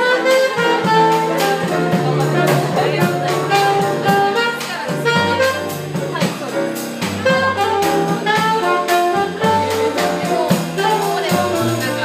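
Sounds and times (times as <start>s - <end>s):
bass: 0.0s - 12.0s
drum kit cymbals: 0.0s - 12.0s
piano: 0.0s - 12.0s
saxophone solo: 0.0s - 12.0s.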